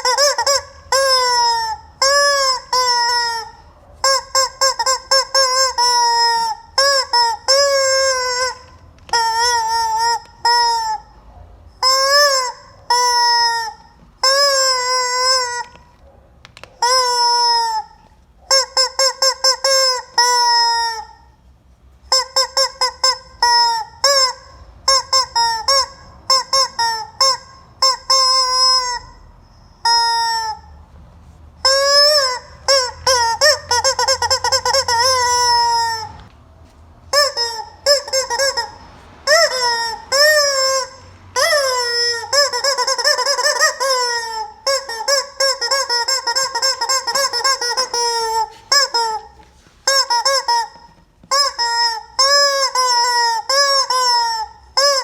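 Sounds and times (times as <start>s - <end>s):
rubber chicken toy squawking: 0.0s - 21.4s, 22.0s - 36.4s, 37.1s - 55.0s.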